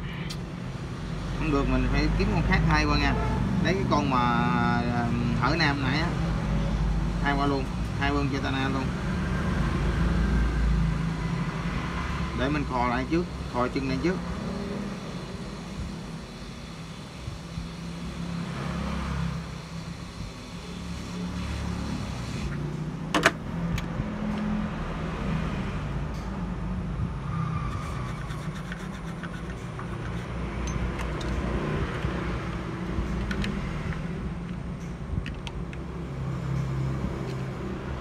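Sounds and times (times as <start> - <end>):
low rumble of passing traffic: 0.0 - 38.0.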